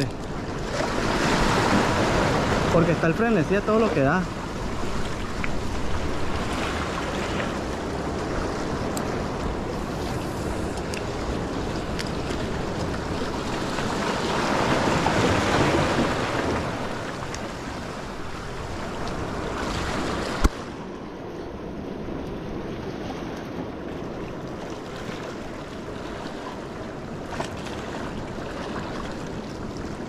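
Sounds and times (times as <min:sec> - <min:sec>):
waves breaking against rocks: 0:00.0 - 0:20.9, 0:21.6 - 0:30.0.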